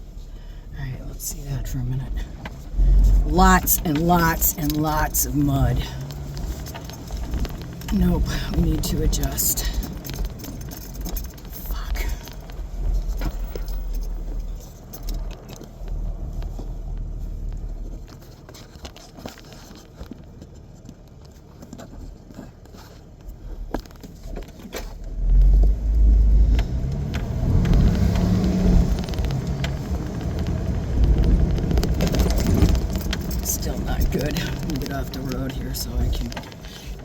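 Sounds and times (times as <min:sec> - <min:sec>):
vehicle engine and road rumble: 0:00.0 - 0:37.0
small rattles and clicks: 0:02.4 - 0:37.0.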